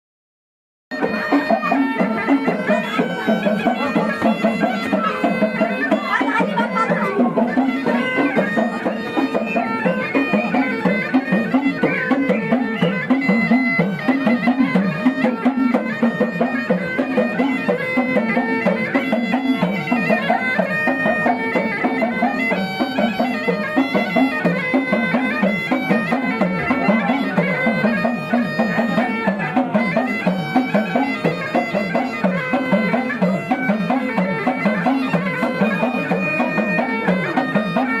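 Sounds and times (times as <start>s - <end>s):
pulsing drum beat: 0.9s - 38.0s
reedy folk melody: 0.9s - 38.0s.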